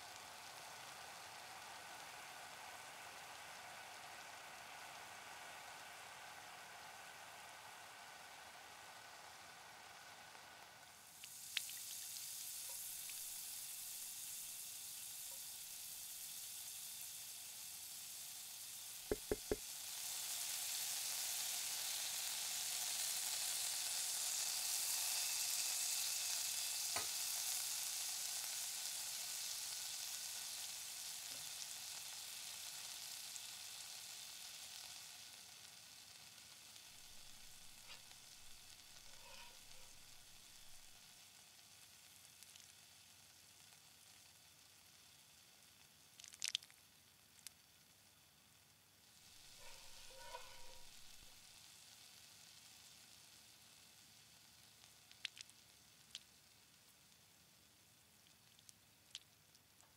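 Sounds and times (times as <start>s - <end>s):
potatoes sizzling in a frying pan: 0.0s - 59.9s.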